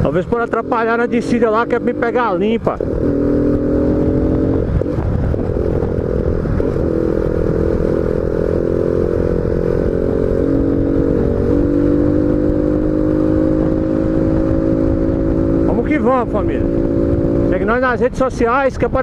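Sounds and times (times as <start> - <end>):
motorcycle engine running: 0.0 - 18.9
wind on microphone: 0.0 - 19.0.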